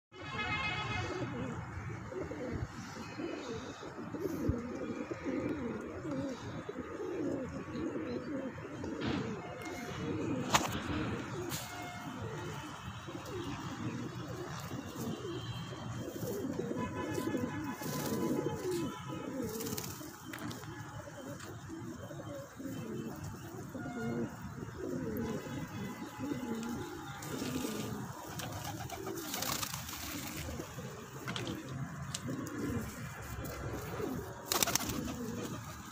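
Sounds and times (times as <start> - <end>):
pigeons cooing: 0.3 - 35.9.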